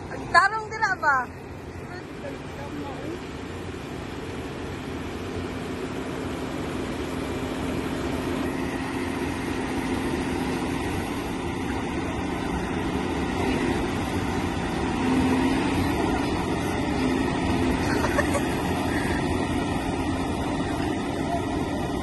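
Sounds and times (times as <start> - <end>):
excavator diesel engine droning: 0.0 - 22.0.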